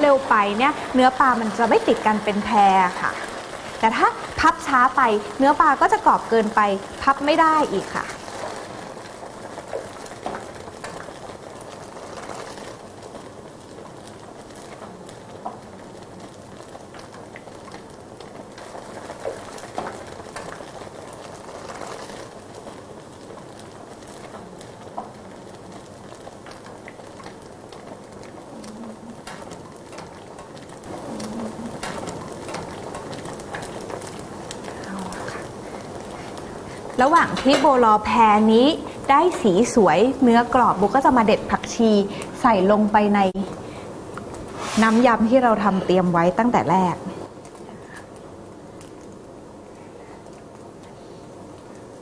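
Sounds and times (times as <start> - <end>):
fish frying in hot oil: 0.0 - 52.0.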